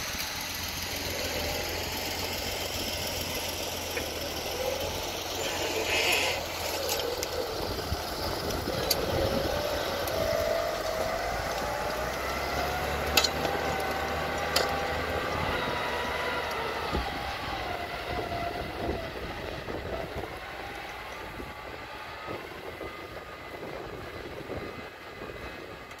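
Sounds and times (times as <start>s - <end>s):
tractor diesel engines whining: 0.0s - 26.0s.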